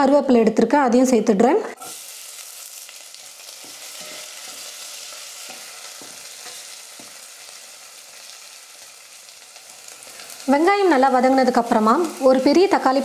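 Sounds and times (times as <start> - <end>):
onion sizzling in hot oil: 1.8 - 13.0.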